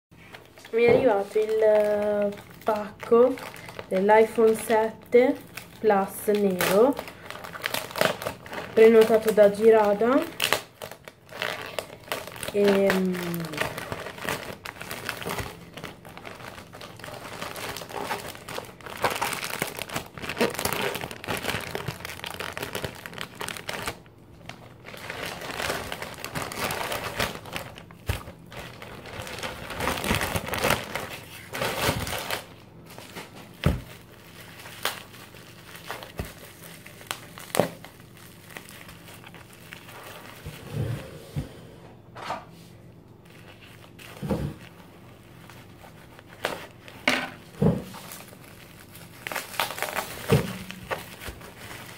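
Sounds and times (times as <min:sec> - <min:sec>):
plastic mailer bag tearing and crinkling: 0:00.2 - 0:40.7, 0:43.2 - 0:51.9
bubble wrap rustling: 0:00.2 - 0:41.1, 0:42.7 - 0:51.9.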